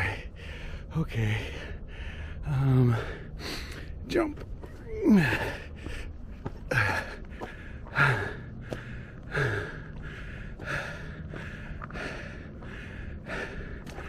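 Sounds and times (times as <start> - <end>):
man breathing hard: 0.0 - 4.0, 5.0 - 14.0.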